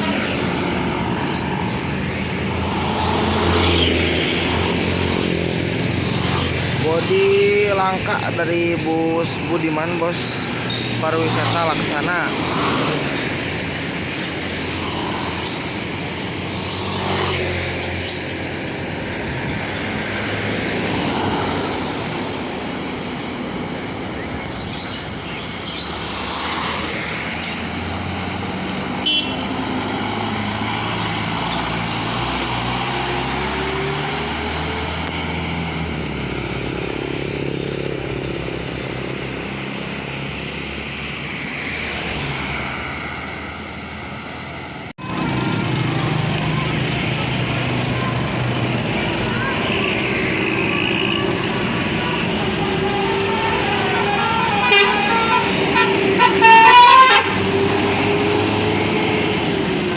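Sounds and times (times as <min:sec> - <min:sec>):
vehicles driving past: 0:00.0 - 0:59.9.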